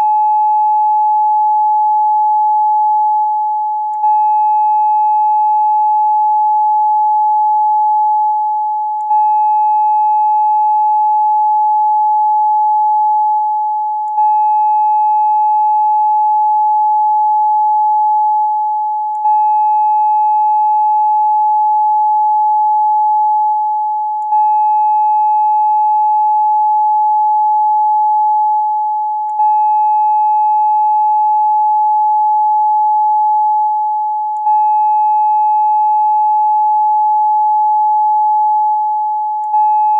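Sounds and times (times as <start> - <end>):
steady pure tone: 0.0 - 39.9.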